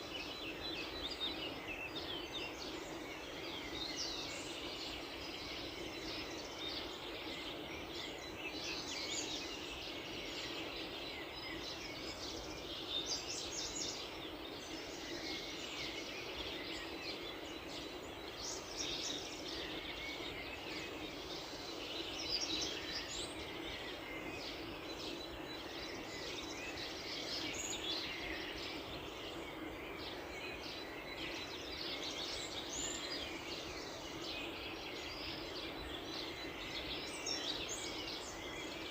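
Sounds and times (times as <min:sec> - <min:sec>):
low background noise: 0:00.0 - 0:38.9
small birds chirping: 0:00.0 - 0:38.9.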